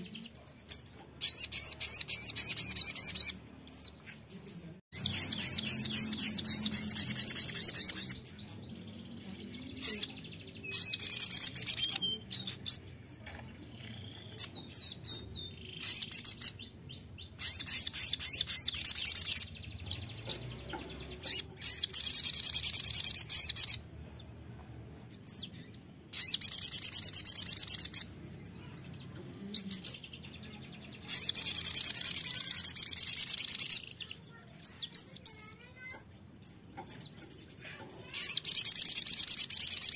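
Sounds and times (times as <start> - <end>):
bird high-pitched trilling: 0.0 - 3.9, 4.9 - 8.6, 9.7 - 12.8, 13.8 - 23.9, 25.2 - 28.9, 29.6 - 39.9.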